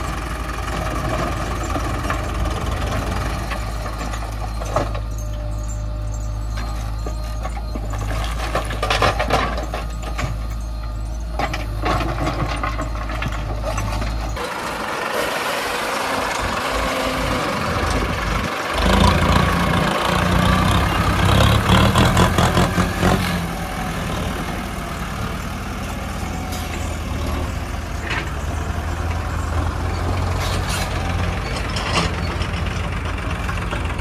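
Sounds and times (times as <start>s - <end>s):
diesel tractor engine running: 0.0s - 34.0s.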